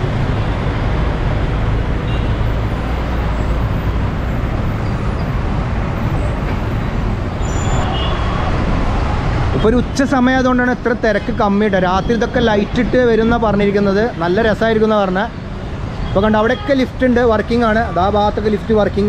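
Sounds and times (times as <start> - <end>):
cars running: 0.0 - 19.0
trucks running: 0.0 - 19.0.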